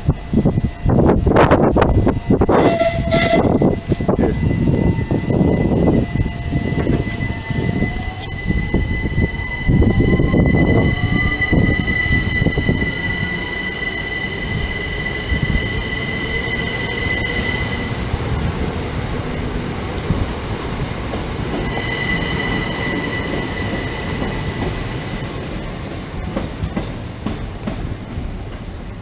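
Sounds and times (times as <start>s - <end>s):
high-pitched train whine: 0.0s - 27.7s
train rumbling: 0.0s - 29.0s.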